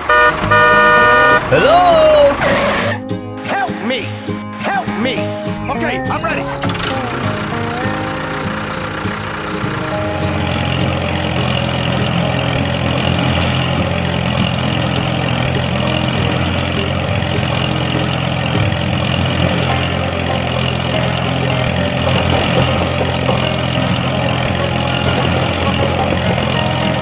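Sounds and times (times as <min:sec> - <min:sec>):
engine idling: 0:00.0 - 0:02.9, 0:06.3 - 0:27.0.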